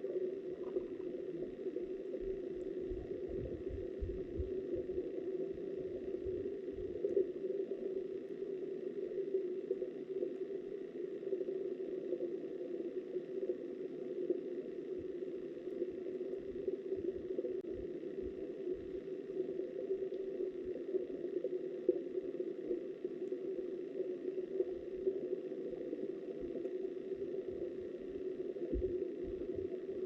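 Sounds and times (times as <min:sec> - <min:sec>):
muffled underwater river rush: 0:00.0 - 0:30.0.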